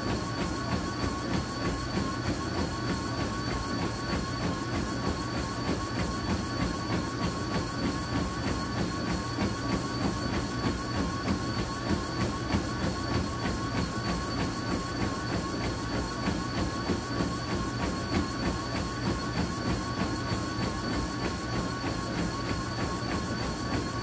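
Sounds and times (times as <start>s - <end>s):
running footfalls on treadmill: 0.0s - 24.0s
treadmill motor hum and whine: 0.0s - 24.0s.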